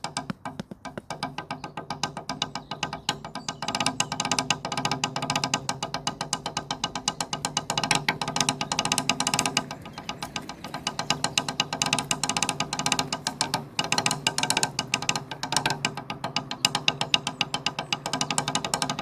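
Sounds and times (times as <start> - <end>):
drumstick fast strokes on drum: 0.0 - 19.0.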